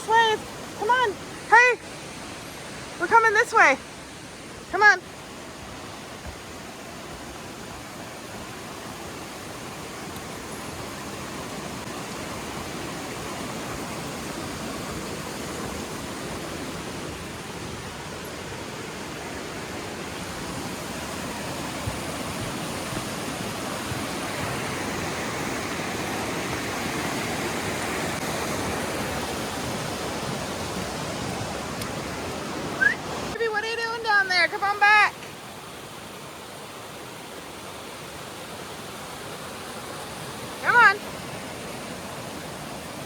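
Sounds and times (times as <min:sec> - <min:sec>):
rush of falling water: 0:00.0 - 0:43.0.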